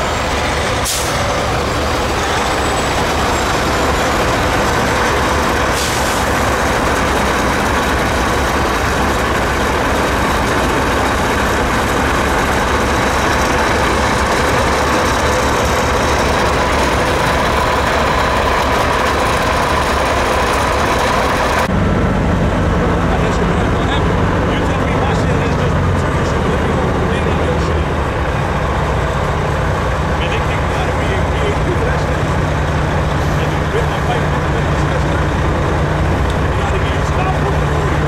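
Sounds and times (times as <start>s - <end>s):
truck diesel engine idling: 0.0s - 38.0s.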